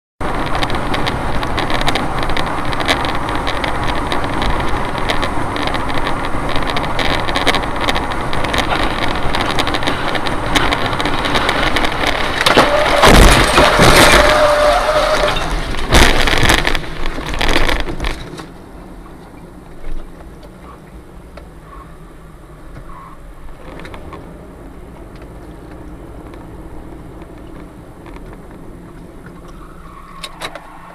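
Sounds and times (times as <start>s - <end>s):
road and vehicle noise: 0.2s - 30.9s.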